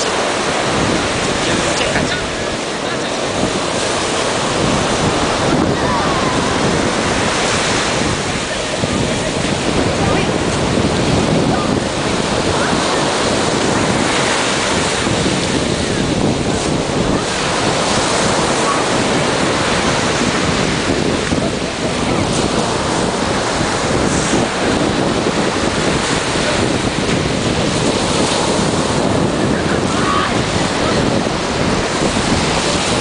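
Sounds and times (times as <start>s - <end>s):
sea surf breaking: 0.0s - 33.0s
wind buffeting microphone: 0.0s - 33.0s.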